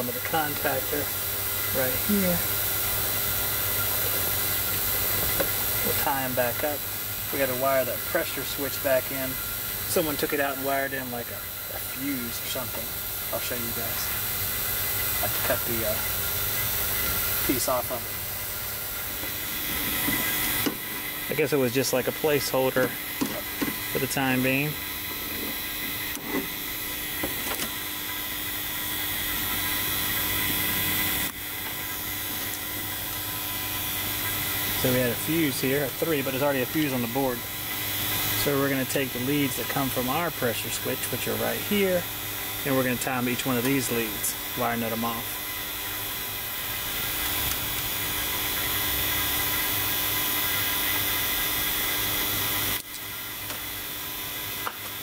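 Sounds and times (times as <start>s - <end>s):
vacuum pump humming: 0.0s - 55.0s.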